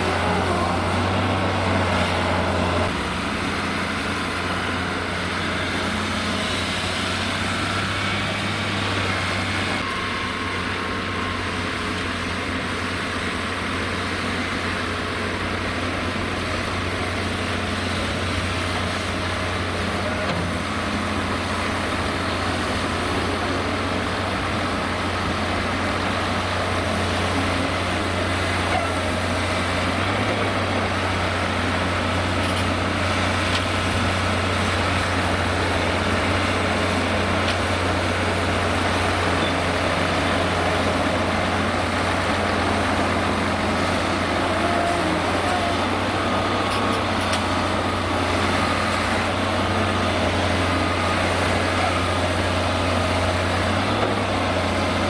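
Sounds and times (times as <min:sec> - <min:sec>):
dump truck engines running: 0:00.0 - 0:55.0.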